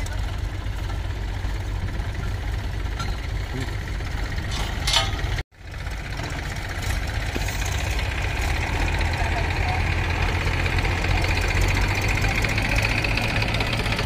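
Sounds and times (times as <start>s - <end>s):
tractor engines idling: 0.0s - 14.0s.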